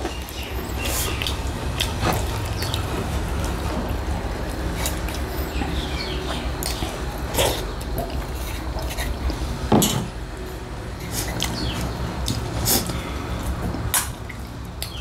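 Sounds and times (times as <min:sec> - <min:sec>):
wet chewing and lip-smacking: 0:00.0 - 0:09.5, 0:11.0 - 0:15.0.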